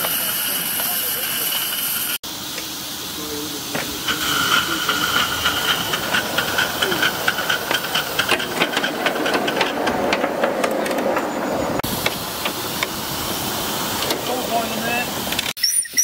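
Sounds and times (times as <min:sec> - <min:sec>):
steam locomotive exhaust beats: 0:00.0 - 0:15.5
steam hissing: 0:00.0 - 0:15.6.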